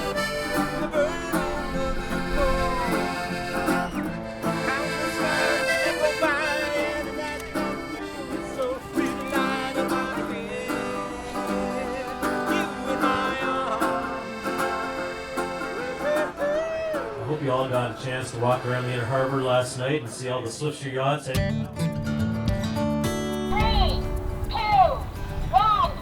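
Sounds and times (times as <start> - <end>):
folk music with accordion and guitar: 0.0 - 26.0.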